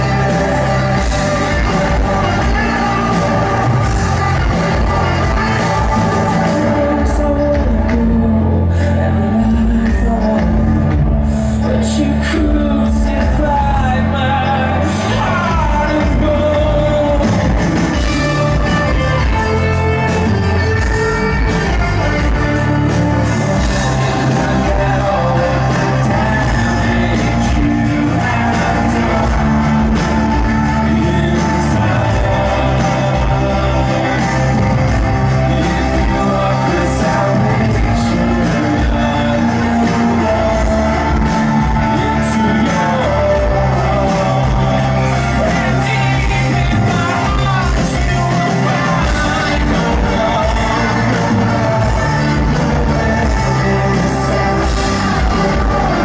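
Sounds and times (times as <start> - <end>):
man singing into a microphone: 0.0 - 56.0
synth-pop band playing live: 0.0 - 56.0.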